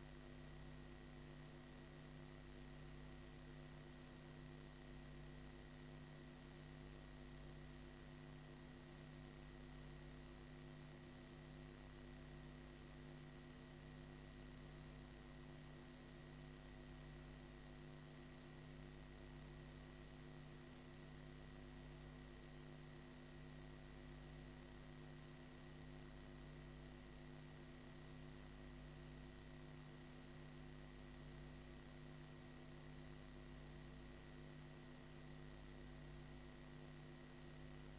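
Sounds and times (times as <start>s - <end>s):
low electrical hum: 0.0s - 37.9s.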